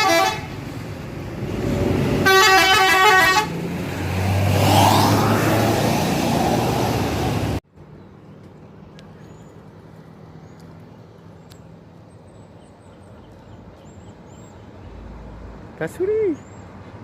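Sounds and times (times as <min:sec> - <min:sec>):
bus passing with engine running: 0:00.0 - 0:17.0.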